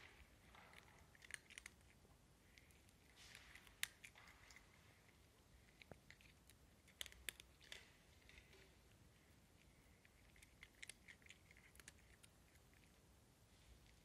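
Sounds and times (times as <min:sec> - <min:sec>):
cat crunching dry kibble: 0:00.2 - 0:13.0.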